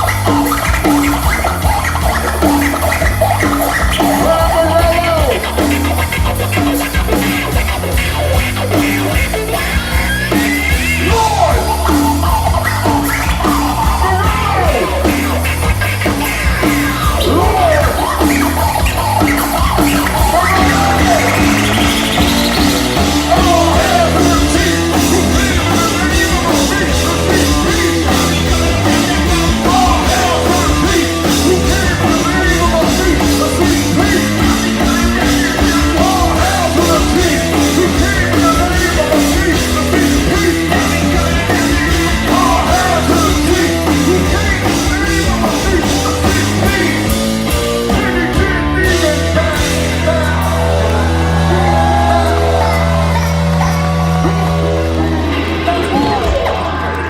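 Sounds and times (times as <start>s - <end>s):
person rapping and shouting: 0.0s - 6.2s, 10.3s - 16.0s, 16.6s - 57.0s
bass line: 0.0s - 57.0s
rap-rock band playing live: 0.0s - 57.0s.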